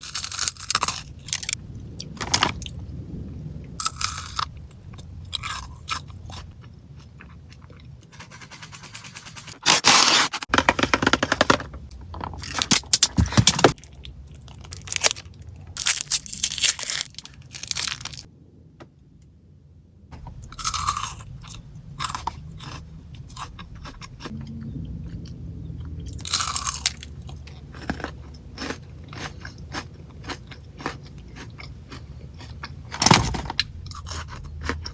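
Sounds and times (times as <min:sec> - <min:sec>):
crunching and chewing chocolates: 0:00.0 - 0:02.8, 0:03.8 - 0:18.3, 0:20.2 - 0:34.9.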